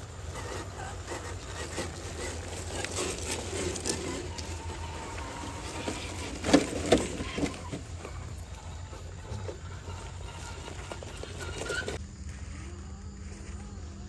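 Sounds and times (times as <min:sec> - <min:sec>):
tyres crackling over rocks: 0:00.0 - 0:12.0
faint electric motor whine: 0:00.0 - 0:14.0
low outdoor rumble: 0:00.0 - 0:14.0.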